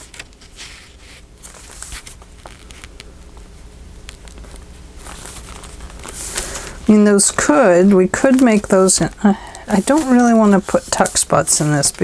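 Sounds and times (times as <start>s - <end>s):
low steady hum: 0.0s - 12.0s
paper rustling: 0.0s - 12.0s.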